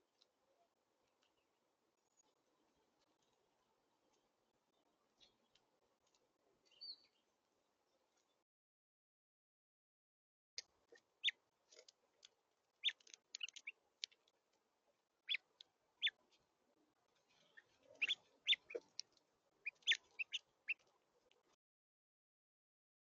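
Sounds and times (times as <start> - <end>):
songbirds chirping: 0.0 - 8.4, 10.6 - 21.6.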